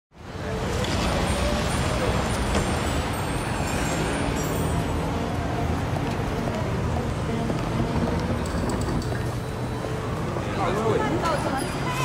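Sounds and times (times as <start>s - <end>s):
traffic noise: 0.1s - 12.0s.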